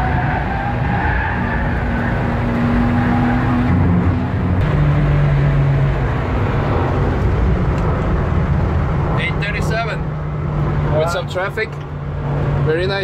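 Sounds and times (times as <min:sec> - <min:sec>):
race car engine from inside: 0:01.7 - 0:13.0.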